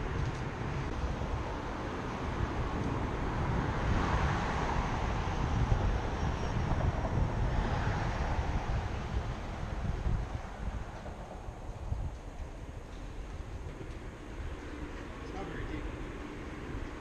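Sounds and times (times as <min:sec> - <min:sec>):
broad rushing noise: 0:00.0 - 0:17.0
wind buffeting microphone: 0:00.0 - 0:17.0.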